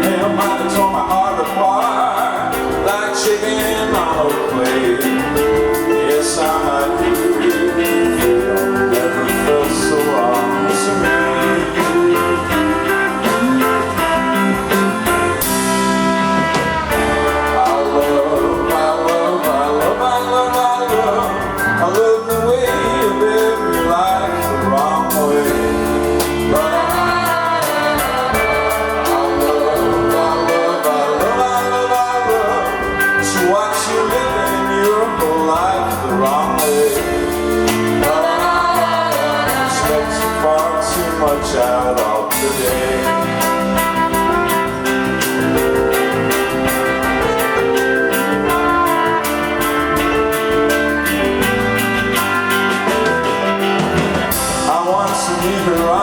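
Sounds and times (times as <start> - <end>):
drums: 0.0 - 56.0
electric guitars: 0.0 - 56.0
person singing: 0.0 - 56.0.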